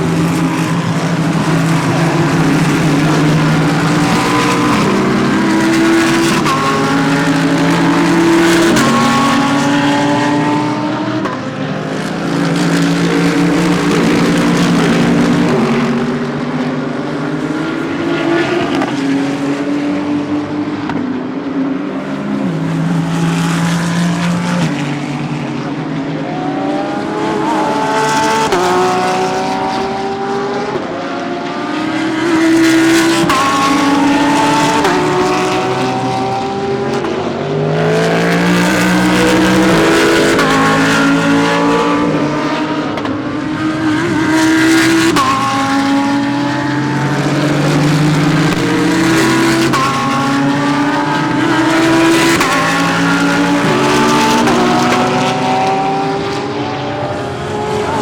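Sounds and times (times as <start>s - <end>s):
race car engines shifting gears: 0.0s - 58.0s.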